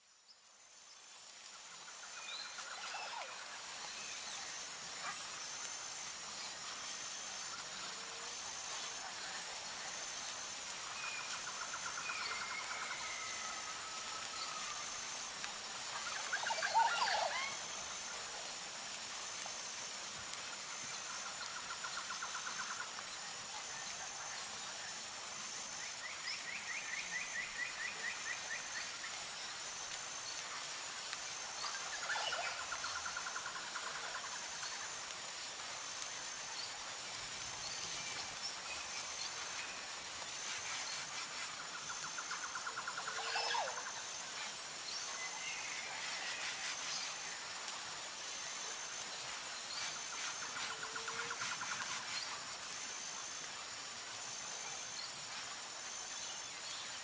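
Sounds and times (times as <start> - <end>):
light rain hissing: 0.0 - 57.0.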